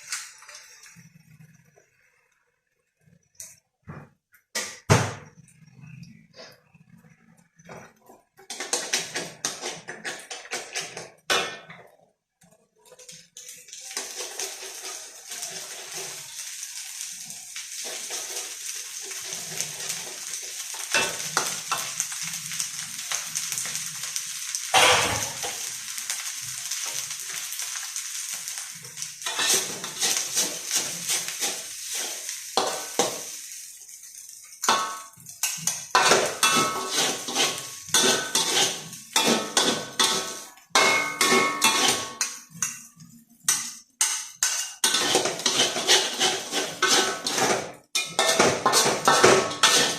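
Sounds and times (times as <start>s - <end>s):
food sizzling in a pan: 0.0s - 2.3s, 3.1s - 49.9s
spatula scraping a pan: 5.7s - 11.9s, 13.1s - 49.9s.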